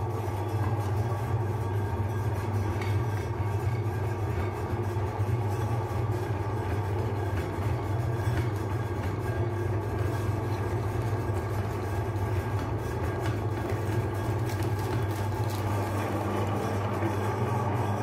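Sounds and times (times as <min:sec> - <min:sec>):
meat grinder motor humming: 0:00.0 - 0:18.0.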